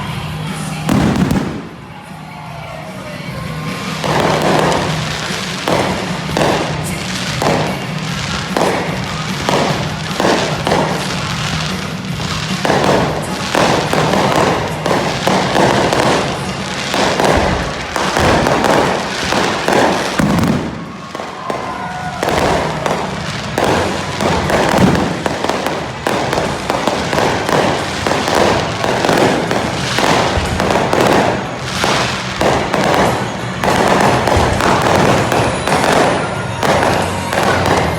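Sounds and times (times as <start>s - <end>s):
fireworks exploding: 0.0s - 37.9s.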